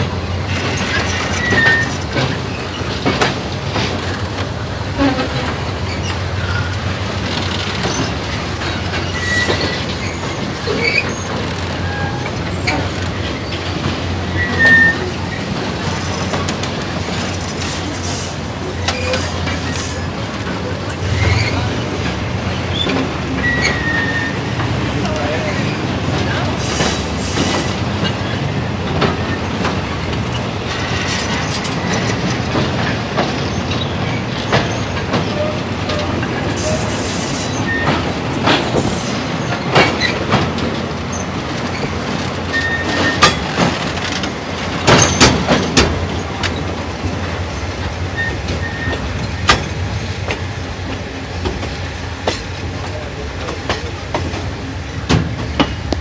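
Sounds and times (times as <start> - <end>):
sharp clacks of train wheels: 0.0 - 56.0
train wheels rumbling on rails: 0.0 - 56.0.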